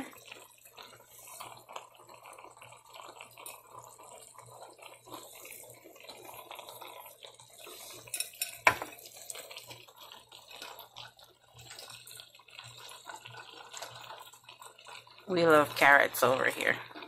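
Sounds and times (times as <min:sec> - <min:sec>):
stew bubbling in a pot: 0:00.0 - 0:17.0.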